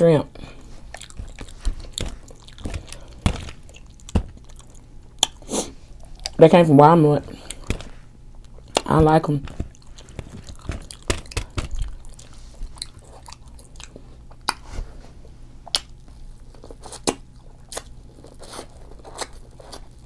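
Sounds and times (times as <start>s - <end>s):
close-miked chewing and smacking: 0.6s - 6.4s, 7.4s - 14.7s, 15.6s - 20.0s.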